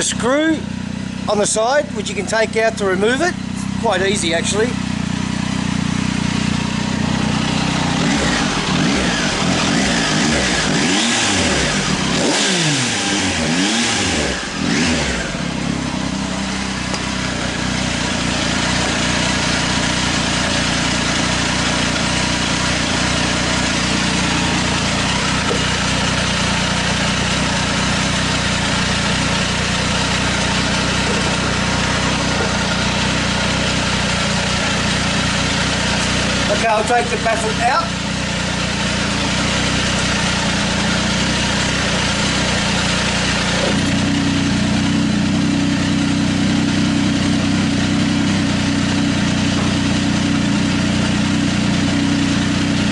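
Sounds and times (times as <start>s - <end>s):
motorcycle engine idling: 0.0s - 52.9s
motorcycle throttle blips: 0.0s - 52.9s.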